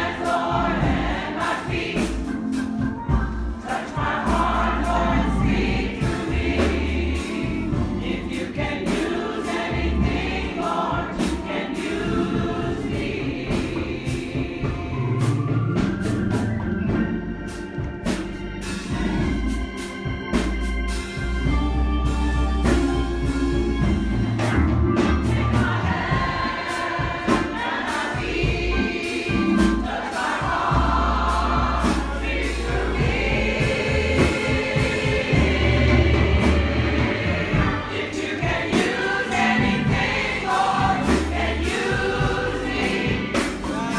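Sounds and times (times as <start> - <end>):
congregation singing gospel song: 0.0 - 43.9
instrumental music with heavy bass: 0.0 - 43.9.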